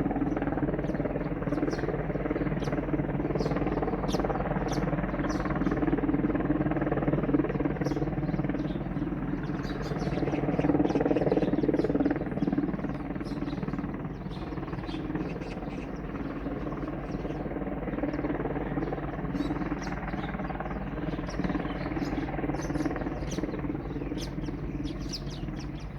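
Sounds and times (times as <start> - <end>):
small birds chirping: 0.0 - 6.4, 7.3 - 25.9
helicopter hovering: 0.0 - 25.9.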